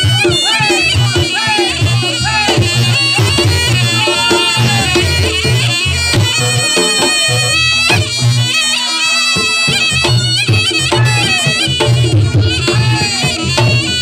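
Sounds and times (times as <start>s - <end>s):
reedy shawm melody: 0.0s - 14.0s.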